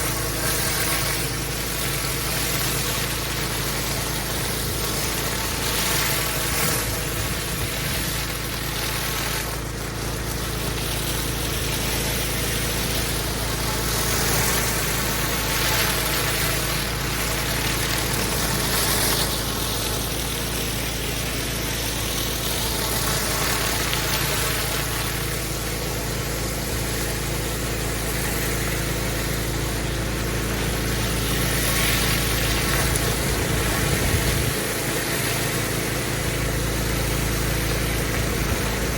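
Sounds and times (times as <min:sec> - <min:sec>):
high-pressure water jet hissing: 0:00.0 - 0:38.9
pressure washer engine hum: 0:00.0 - 0:38.9.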